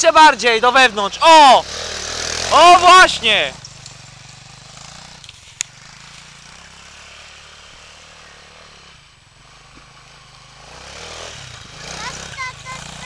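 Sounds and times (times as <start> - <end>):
quad engine running: 0.0 - 13.0.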